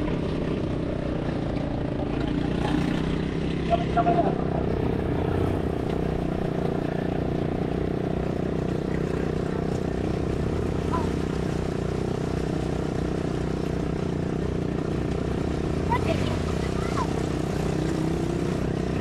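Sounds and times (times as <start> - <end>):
atv engines running: 0.0 - 19.0
water splashing around wheels: 0.0 - 19.0.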